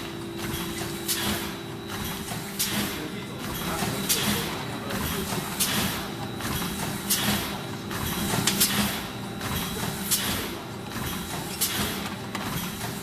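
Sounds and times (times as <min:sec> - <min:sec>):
packing machine hum and clatter: 0:00.0 - 0:13.0.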